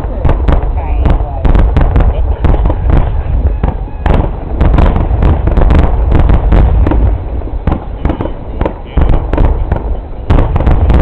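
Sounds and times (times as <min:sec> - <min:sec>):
continuous low rumble: 0:00.0 - 0:11.0
firework shell bursts and booms: 0:00.0 - 0:11.0.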